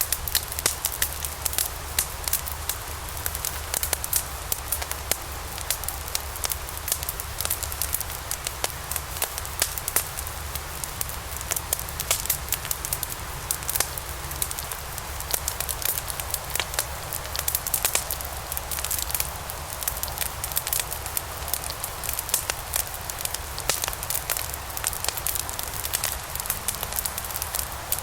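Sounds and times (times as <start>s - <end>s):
fire crackling and popping: 0.0s - 28.0s
fire hissing: 0.0s - 28.0s
low rumble of fire: 0.0s - 28.0s.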